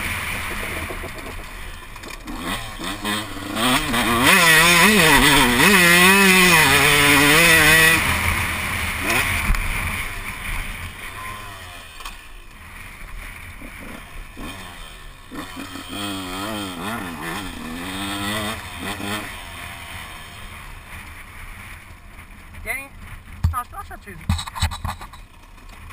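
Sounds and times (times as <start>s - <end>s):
dirt bike engine revving: 0.0s - 23.7s.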